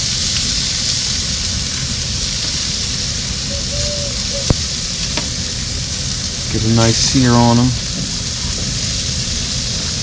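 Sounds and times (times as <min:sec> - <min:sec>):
hot dogs sizzling on grill: 0:00.0 - 0:10.0.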